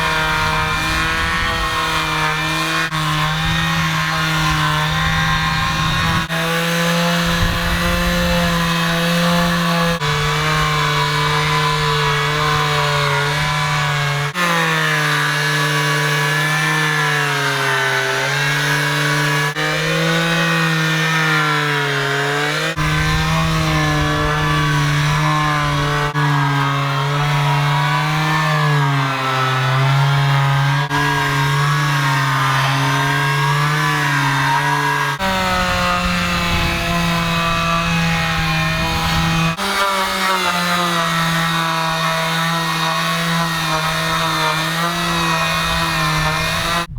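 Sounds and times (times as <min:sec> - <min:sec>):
electric sander whining: 0:00.0 - 0:46.9.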